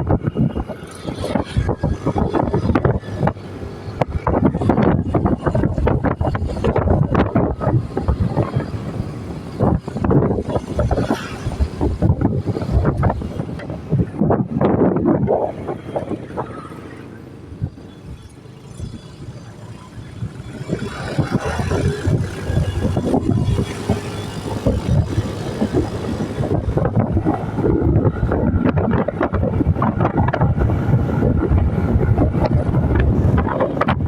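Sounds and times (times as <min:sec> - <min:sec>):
vehicle rumbling: 0:00.0 - 0:34.0
wind buffeting microphone: 0:00.0 - 0:34.0.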